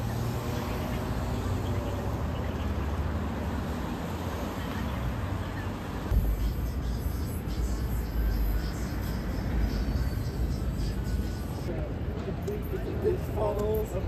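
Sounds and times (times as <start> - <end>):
cars passing with low rumble: 0.0 - 14.0
general street noise: 0.0 - 14.0.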